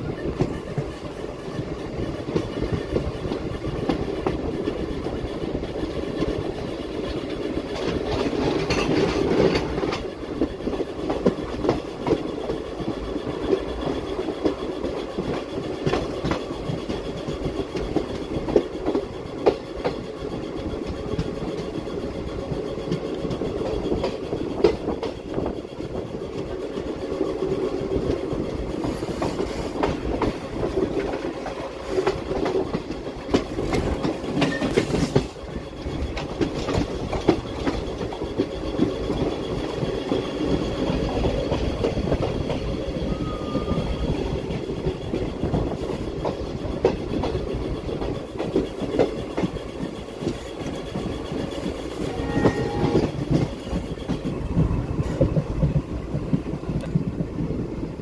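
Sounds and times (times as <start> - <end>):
train wheels rumbling on rail: 0.0 - 58.0
wheels clickety-clack on rail joints: 0.0 - 58.0.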